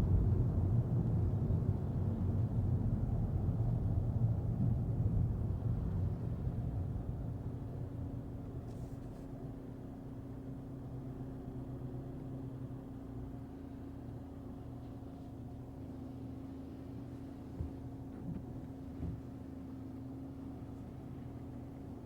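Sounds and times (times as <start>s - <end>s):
car cabin engine drone: 0.0s - 22.0s.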